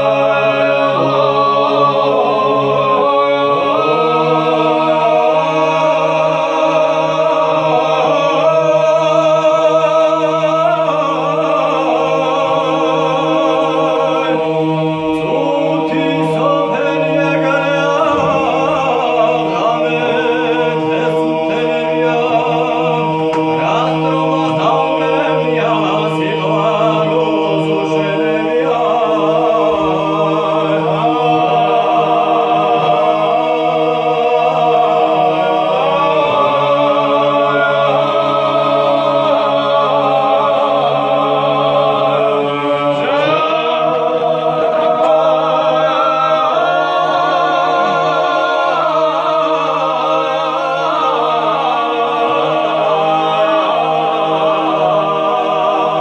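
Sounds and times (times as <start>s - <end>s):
men's unaccompanied choral singing: 0.0s - 56.0s.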